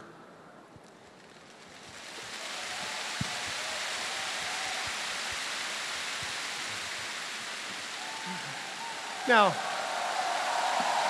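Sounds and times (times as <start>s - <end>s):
steady rushing water noise: 1.7s - 11.0s.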